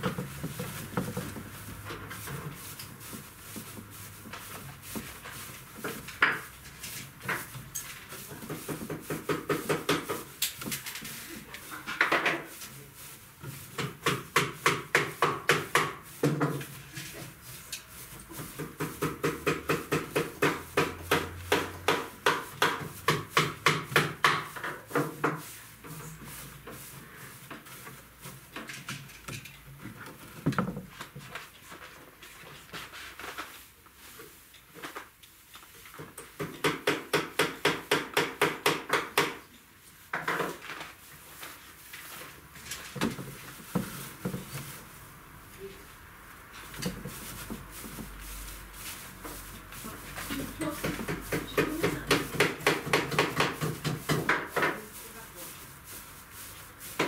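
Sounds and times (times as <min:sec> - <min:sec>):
hands rustling stuffing fibre: 0:00.0 - 0:28.8, 0:39.6 - 0:57.0.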